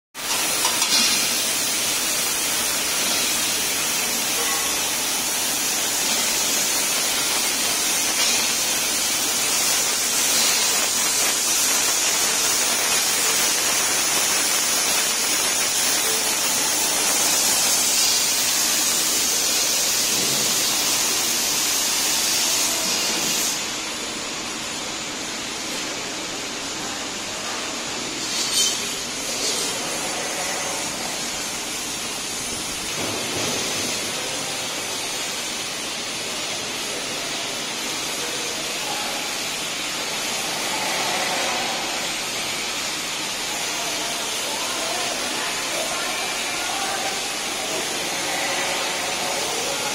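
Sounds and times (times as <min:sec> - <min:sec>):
laser cutting machine hissing: 0:00.2 - 0:49.9.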